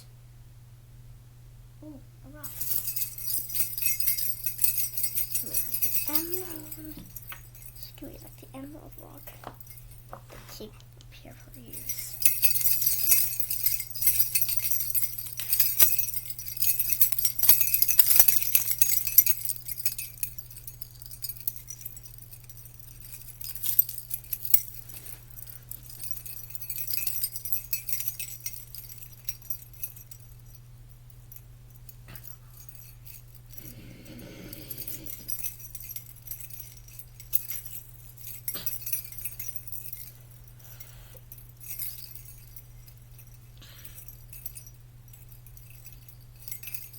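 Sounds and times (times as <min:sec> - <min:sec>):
low steady hum: 0:00.0 - 0:46.9
small bells jingling: 0:02.3 - 0:46.9.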